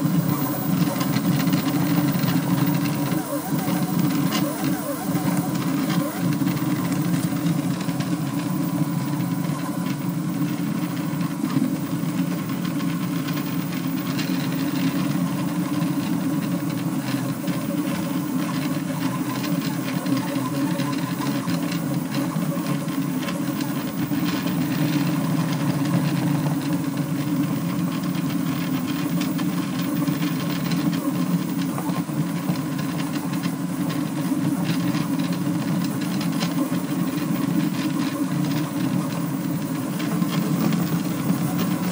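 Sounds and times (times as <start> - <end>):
stepper motors whirring and buzzing: 0.0 - 41.9.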